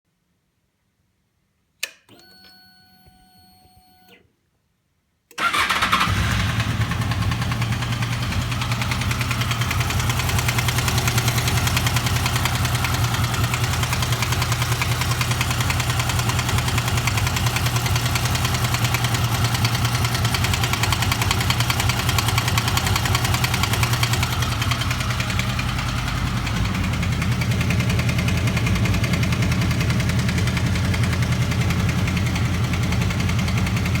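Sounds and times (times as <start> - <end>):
motorcycle engine idling: 5.4 - 34.0
engine knocking: 6.4 - 34.0.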